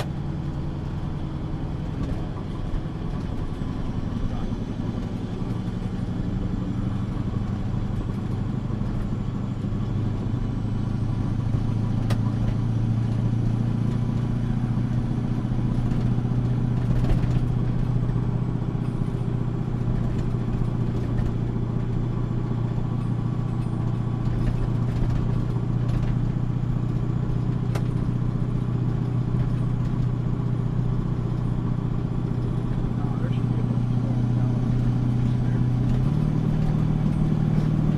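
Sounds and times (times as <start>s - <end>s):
truck engine droning: 0.0s - 37.9s.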